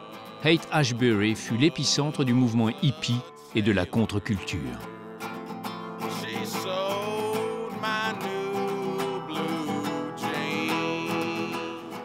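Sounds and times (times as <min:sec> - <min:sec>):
man singing: 0:00.0 - 0:12.0
strummed classical guitar: 0:00.0 - 0:12.0.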